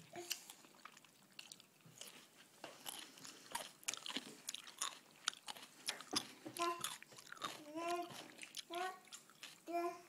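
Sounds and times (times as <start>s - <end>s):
child chewing cucumber: 0.0s - 10.0s.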